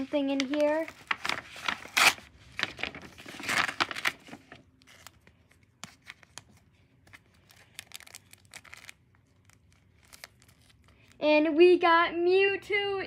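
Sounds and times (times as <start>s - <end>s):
paper and plastic crinkling: 0.0s - 11.2s.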